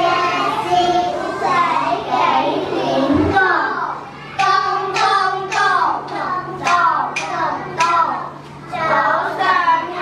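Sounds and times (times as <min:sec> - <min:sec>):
children chanting a rhyme: 0:00.0 - 0:10.0.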